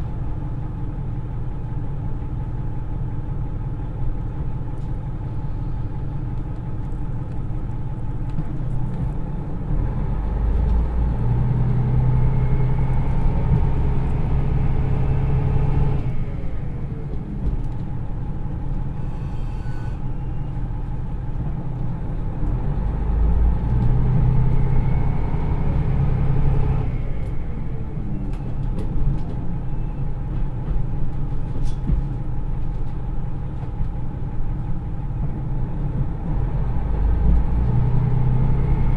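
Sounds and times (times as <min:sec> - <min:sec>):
diesel railcar engine pulling: 0:00.0 - 0:38.9
train rolling rumble: 0:00.0 - 0:38.9.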